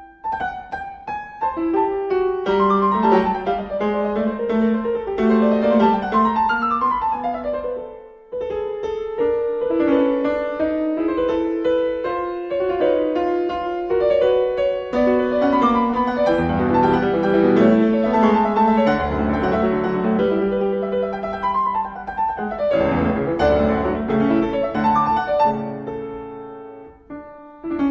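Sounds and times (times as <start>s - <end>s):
piano music: 0.0s - 27.9s.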